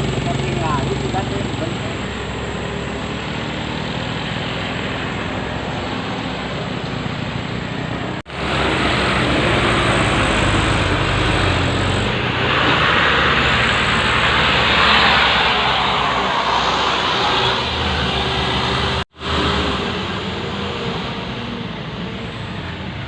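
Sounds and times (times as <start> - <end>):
diesel truck engine running: 0.0 - 23.0
heavy road noise: 0.0 - 23.0.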